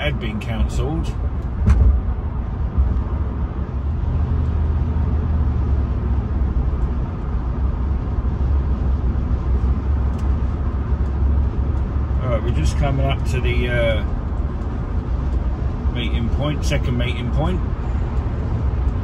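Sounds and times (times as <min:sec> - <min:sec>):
car interior road and engine rumble: 0:00.0 - 0:19.0.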